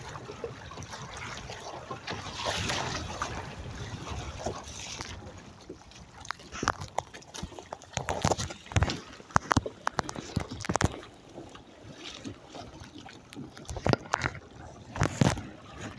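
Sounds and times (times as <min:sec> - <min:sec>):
water splashing against hull: 0:00.0 - 0:15.9.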